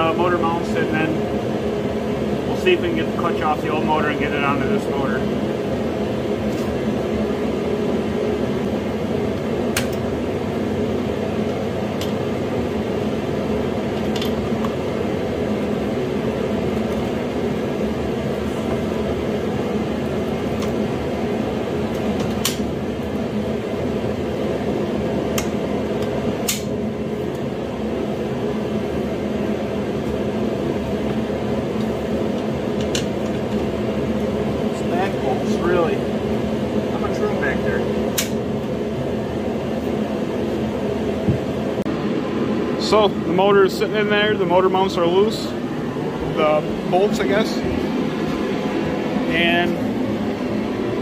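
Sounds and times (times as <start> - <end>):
mechanical hum: 0.0 - 51.0.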